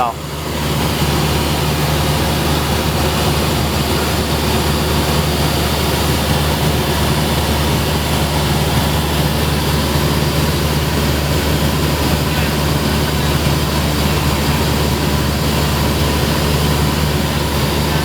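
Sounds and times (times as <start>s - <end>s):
propeller aircraft engine droning: 0.0s - 18.0s.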